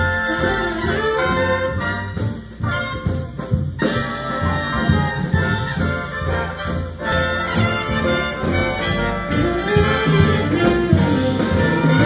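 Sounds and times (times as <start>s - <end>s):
big band jazz over loudspeaker: 0.0s - 12.0s.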